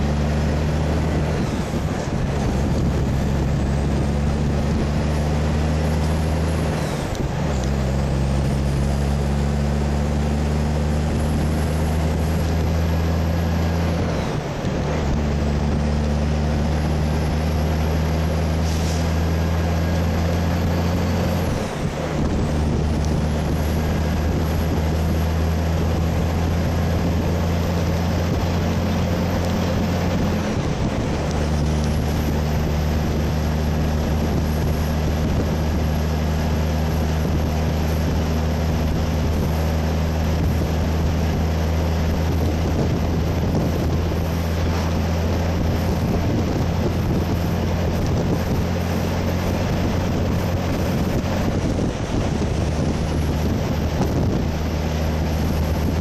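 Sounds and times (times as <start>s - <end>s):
diesel truck engine drone: 0.0s - 56.0s
wind noise: 0.0s - 56.0s.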